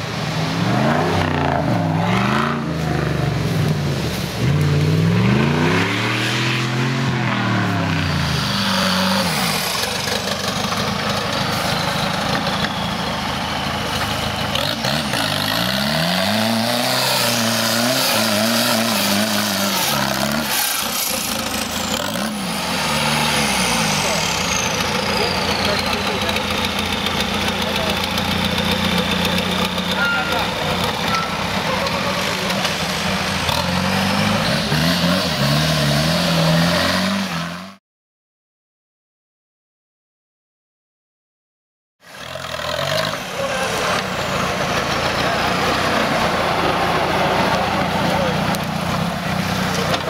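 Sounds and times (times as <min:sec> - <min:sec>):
vehicle engine revving: 0:00.0 - 0:37.8, 0:42.0 - 0:50.0.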